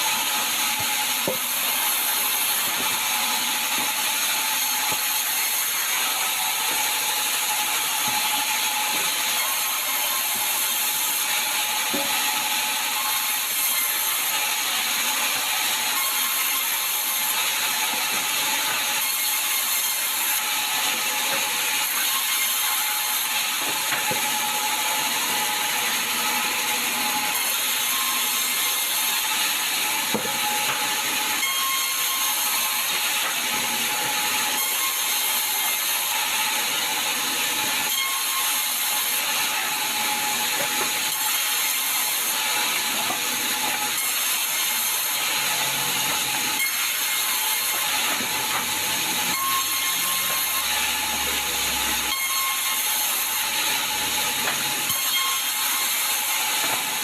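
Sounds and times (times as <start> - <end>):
saw cutting log: 0.0 - 57.0.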